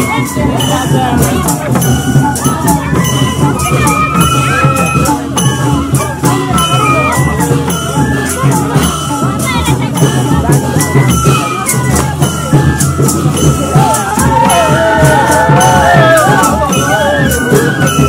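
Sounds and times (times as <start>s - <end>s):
barrel drum beat: 0.0s - 18.0s
flute melody: 0.0s - 18.0s
hand cymbals clashing: 0.0s - 18.0s.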